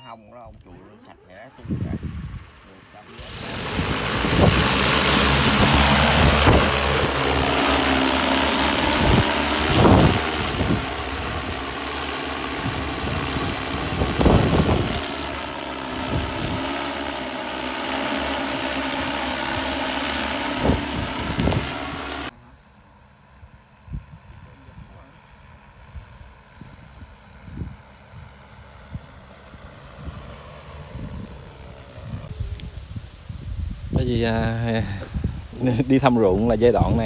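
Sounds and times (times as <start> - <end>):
drone propellers whirring: 1.3 - 37.0.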